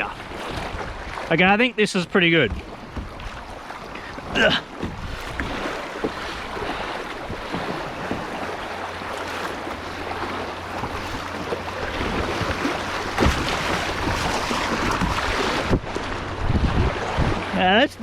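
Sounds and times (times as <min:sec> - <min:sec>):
water rushing around a kayak: 0:00.0 - 0:18.0.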